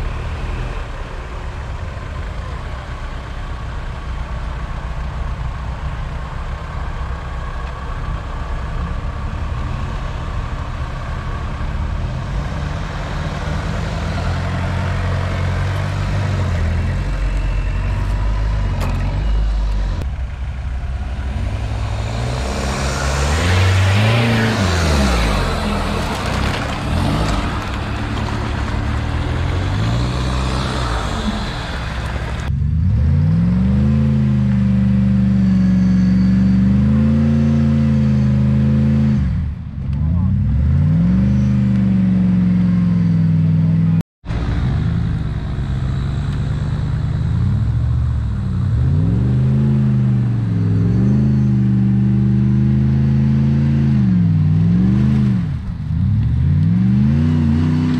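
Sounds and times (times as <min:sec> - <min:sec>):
off-road vehicle engine revving: 0:00.0 - 0:57.9.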